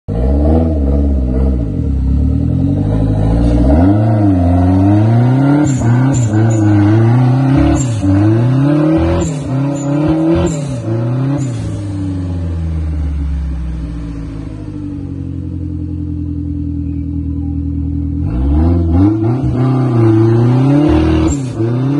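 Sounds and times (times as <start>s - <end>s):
car engine revving: 0.1s - 21.9s.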